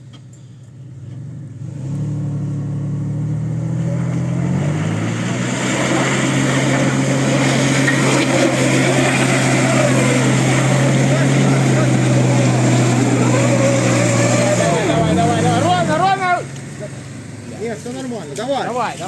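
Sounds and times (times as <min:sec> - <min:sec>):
car engine revving: 0:00.8 - 0:19.0.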